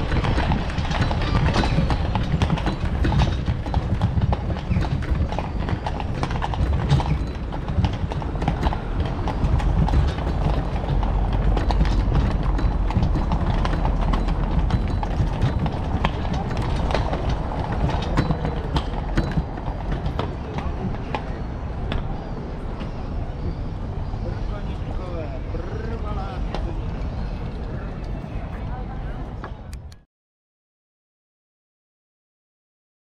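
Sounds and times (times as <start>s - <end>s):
horse hooves on cobblestones: 0.0s - 29.8s.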